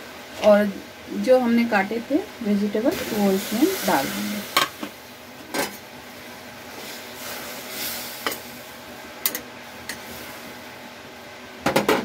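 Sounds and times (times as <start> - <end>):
boiling water hiss: 0.0 - 11.3.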